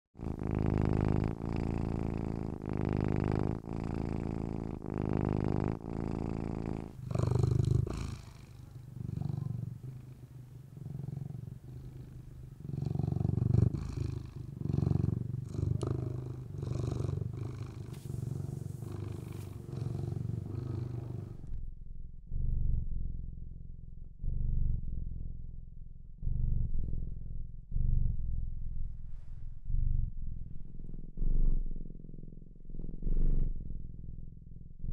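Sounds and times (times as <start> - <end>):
cat purring: 0.2 - 21.7, 26.2 - 34.9.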